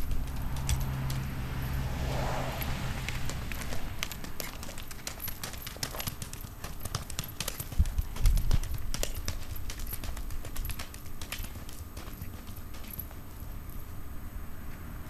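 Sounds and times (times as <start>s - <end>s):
hoofbeats on dirt and gravel: 0.0s - 15.0s.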